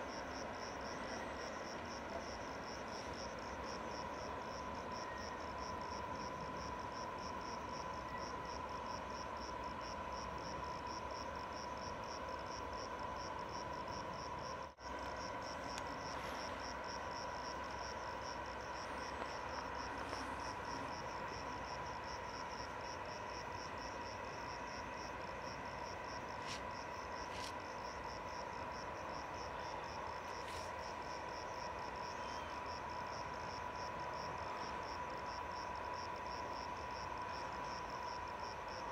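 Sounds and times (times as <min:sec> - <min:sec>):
background hiss: 0:00.0 - 0:38.9
faint hum: 0:00.0 - 0:38.9
insects trilling: 0:00.0 - 0:38.9.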